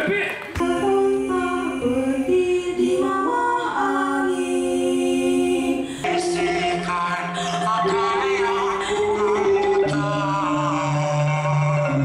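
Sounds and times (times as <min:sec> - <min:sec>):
person singing long notes: 0:00.6 - 0:12.0.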